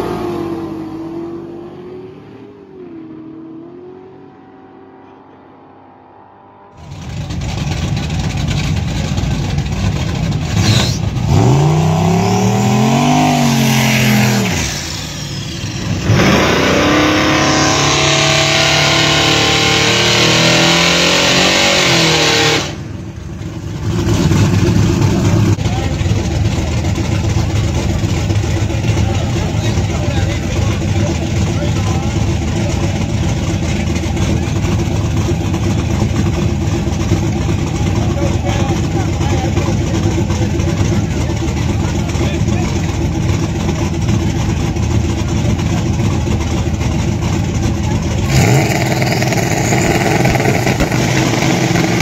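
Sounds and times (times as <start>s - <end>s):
car pulling away: 0.0s - 52.0s
drag race car engine revving: 0.0s - 52.0s.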